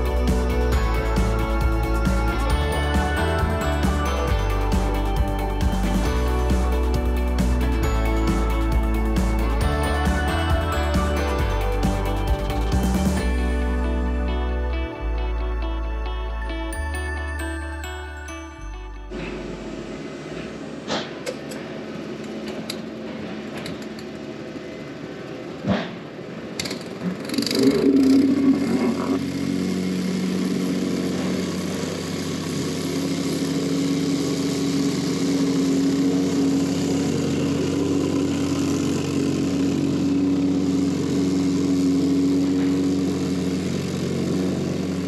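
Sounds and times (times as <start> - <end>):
plate compactor engine running: 0.0 - 25.6, 26.2 - 45.0.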